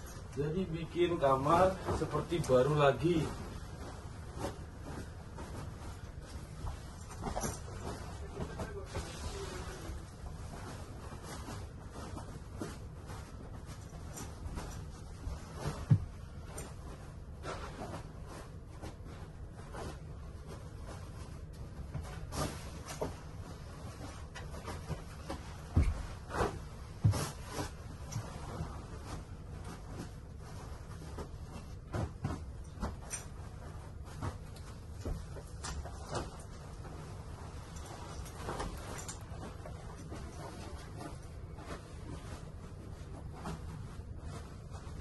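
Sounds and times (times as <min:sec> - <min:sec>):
bedding rustling: 0:00.0 - 0:45.0
sheet flapping down with thumps: 0:00.7 - 0:45.0.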